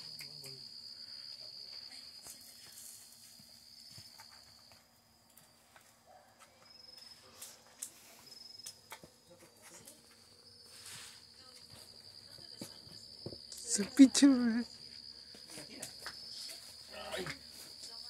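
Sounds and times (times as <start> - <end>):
cricket trill: 0.0 - 18.0.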